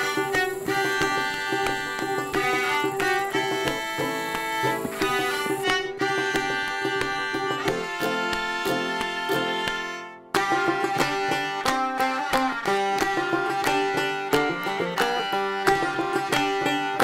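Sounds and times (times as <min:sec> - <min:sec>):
string instrument music: 0:00.0 - 0:17.0.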